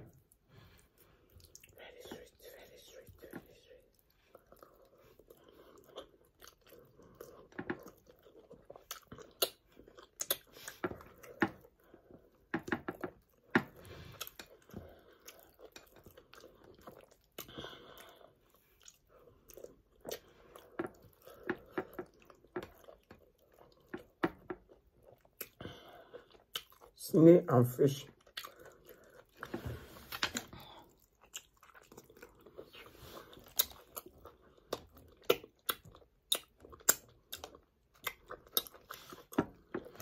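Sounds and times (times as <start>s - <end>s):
close chewing and mouth noises: 0.0s - 40.0s.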